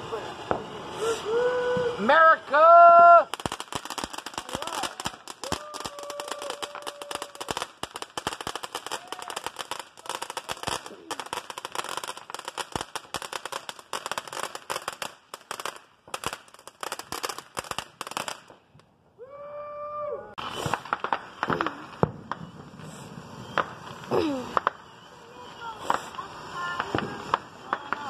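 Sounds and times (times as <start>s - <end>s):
crackling firework fountain: 0.0s - 19.5s, 20.3s - 28.0s.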